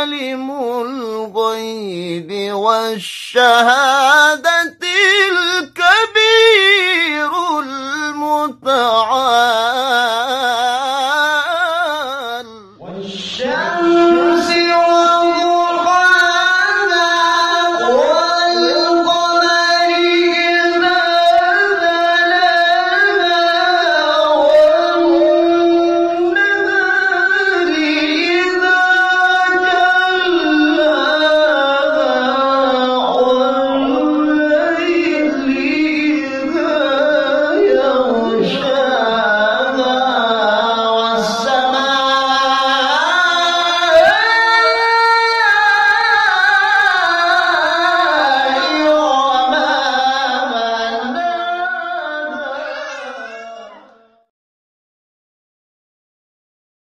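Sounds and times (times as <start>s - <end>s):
man reciting in held notes: 0.0s - 54.0s.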